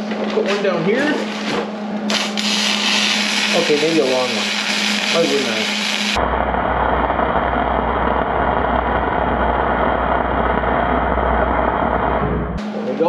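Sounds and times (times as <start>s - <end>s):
welding arc buzzing: 1.2s - 12.2s.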